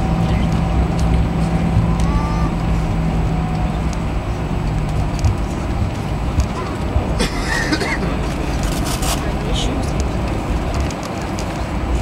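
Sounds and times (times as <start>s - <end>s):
jet engines humming: 0.0s - 12.0s
wheels rumbling on runway: 0.0s - 12.0s.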